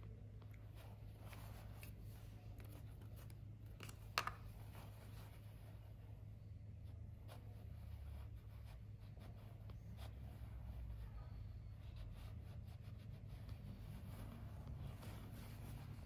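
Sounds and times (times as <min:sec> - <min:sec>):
low steady hum: 0:00.0 - 0:16.0
rubbing and light scratching: 0:00.0 - 0:16.0.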